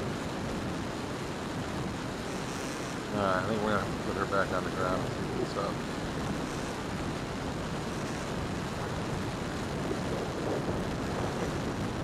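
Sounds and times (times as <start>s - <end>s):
rushing wind: 0.0s - 12.0s.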